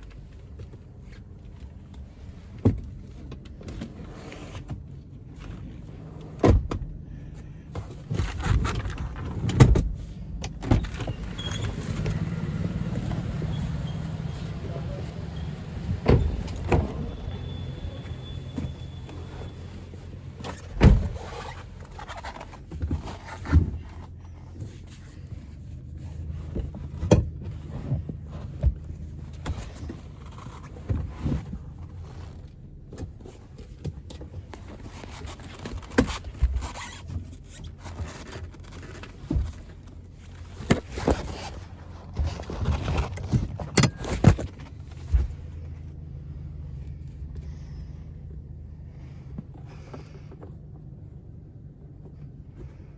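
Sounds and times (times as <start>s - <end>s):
car engine idling: 4.8s - 52.9s.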